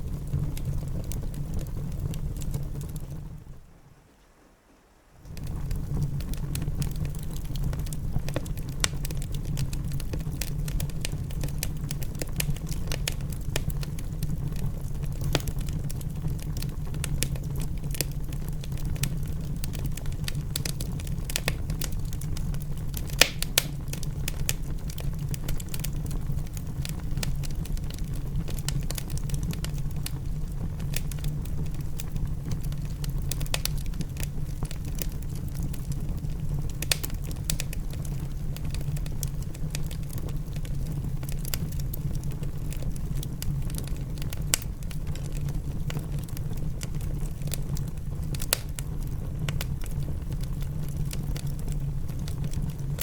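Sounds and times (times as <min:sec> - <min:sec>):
wood fire crackling: 0:00.0 - 0:04.4, 0:05.2 - 0:53.0
sharp pops of fire: 0:05.3 - 0:30.2, 0:30.8 - 0:42.4, 0:43.4 - 0:46.2, 0:46.8 - 0:53.0.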